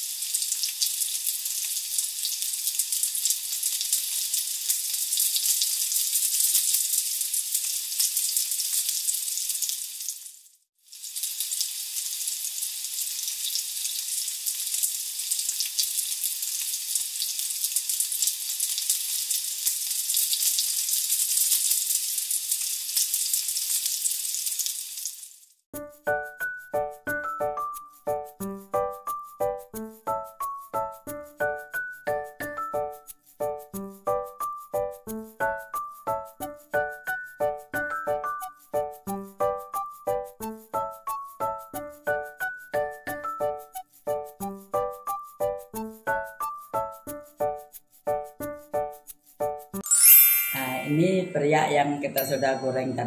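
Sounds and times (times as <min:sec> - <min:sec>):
deep-frying crackling sizzle: 0:00.0 - 0:49.8.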